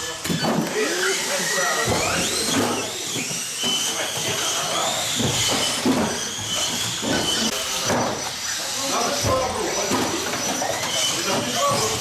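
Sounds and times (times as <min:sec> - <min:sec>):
rc car motor whine: 0:00.0 - 0:12.0.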